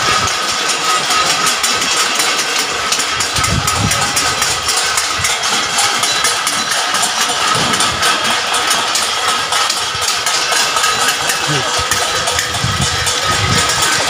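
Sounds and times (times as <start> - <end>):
metal plates beaten together: 0.0 - 14.0
people clapping: 0.0 - 14.0.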